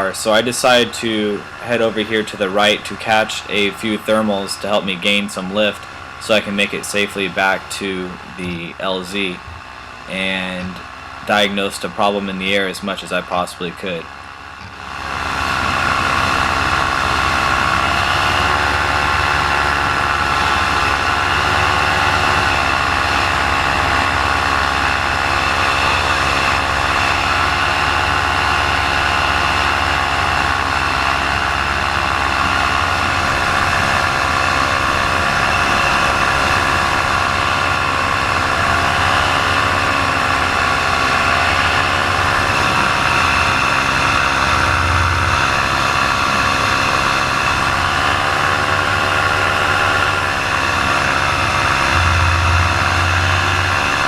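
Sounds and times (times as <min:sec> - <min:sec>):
paramotor engine running: 0:00.0 - 0:54.0.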